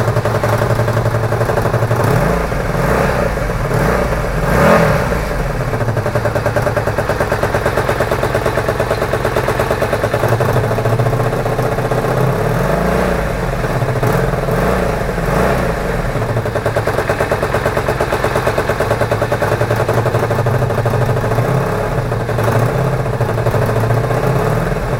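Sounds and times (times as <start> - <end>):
engine throttle blips: 0.0 - 24.9
motorcycle engine idling: 0.0 - 24.9.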